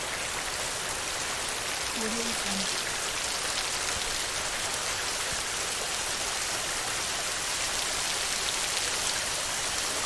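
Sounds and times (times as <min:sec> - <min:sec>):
rain on a metal roof: 0:00.0 - 0:10.0.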